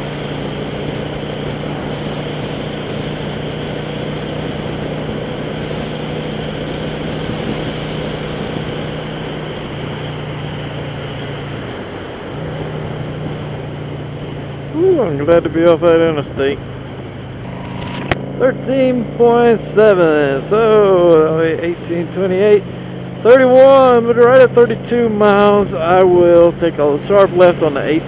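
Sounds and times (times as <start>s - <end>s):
motorcycle engine drone: 0.0s - 28.0s
wind and road noise: 0.0s - 28.0s.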